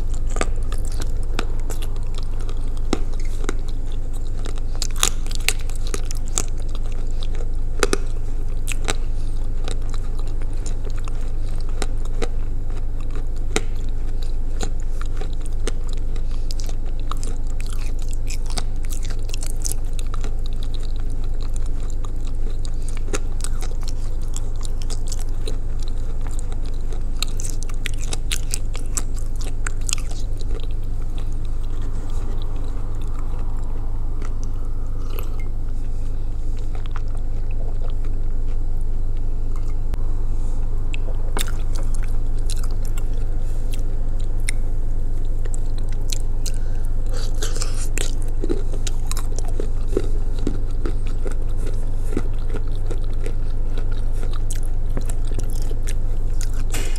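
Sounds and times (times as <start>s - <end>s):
crunchy chewing: 0.0s - 56.9s
low hum: 0.0s - 56.9s.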